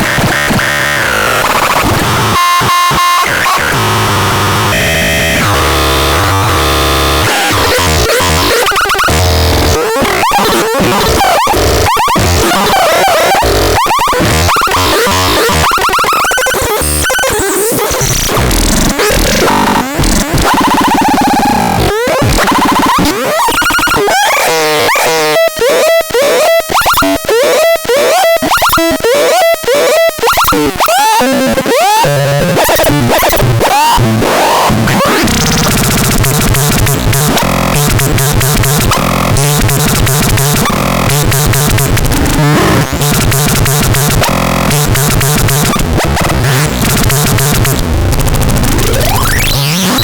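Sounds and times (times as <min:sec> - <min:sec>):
harsh analogue synthesizer: 0:00.0 - 0:50.0.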